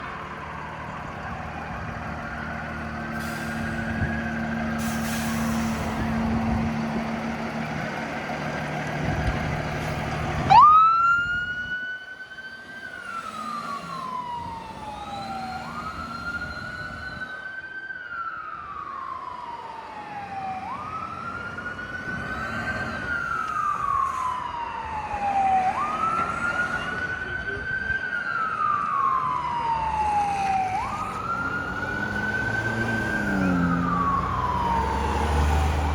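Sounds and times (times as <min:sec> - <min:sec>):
faint siren: 0:00.0 - 0:35.9
fire engine engine running: 0:00.0 - 0:35.9
loud wailing siren: 0:00.0 - 0:35.9.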